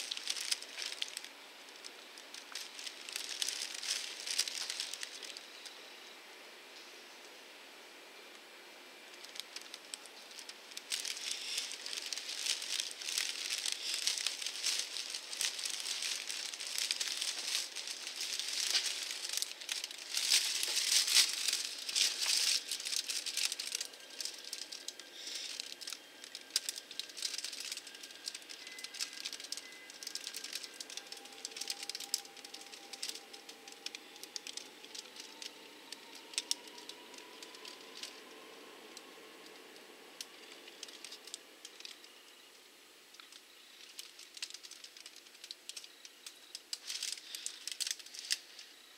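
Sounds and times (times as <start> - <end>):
rain pattering on window glass: 0.0 - 5.8, 9.1 - 42.2, 43.1 - 48.7.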